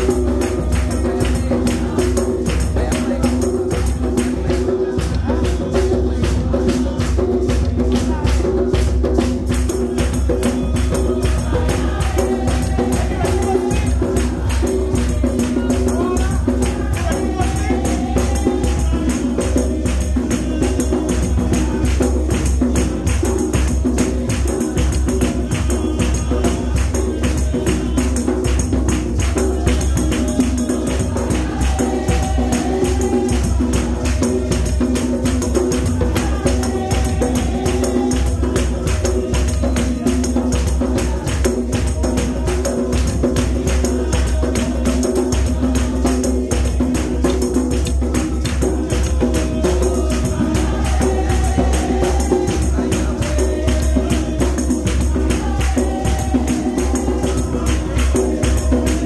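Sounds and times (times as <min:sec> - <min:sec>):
congregation singing: 0:00.0 - 0:59.0
tambourines shaken and struck: 0:00.0 - 0:59.0.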